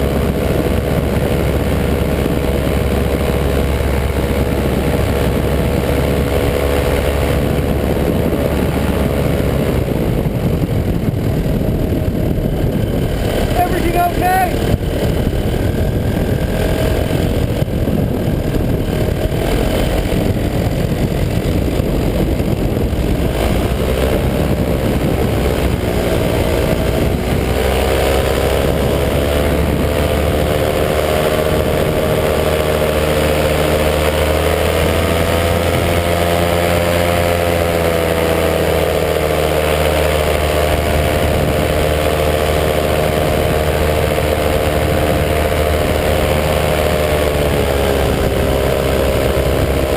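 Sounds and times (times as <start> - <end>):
paramotor engine and propeller: 0.0 - 49.9.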